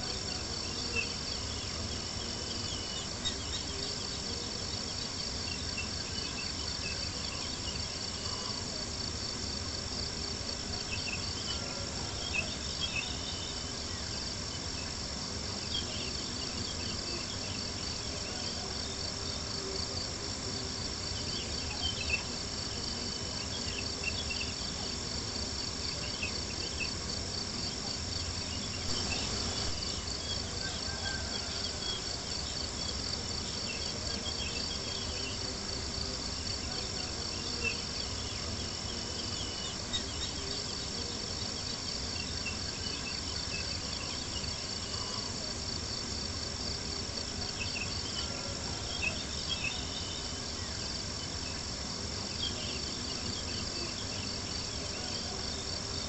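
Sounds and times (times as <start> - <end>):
crickets chirping: 0.0 - 56.0
low hiss: 0.0 - 56.0.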